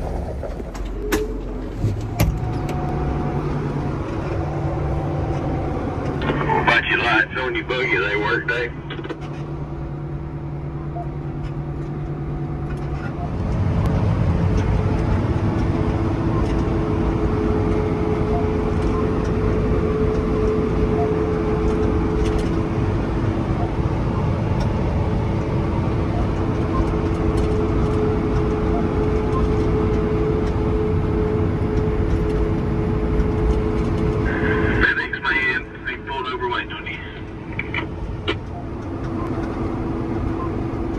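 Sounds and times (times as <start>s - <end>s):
steady whine: 0.0s - 40.9s
tractor engine rumble: 0.0s - 40.9s.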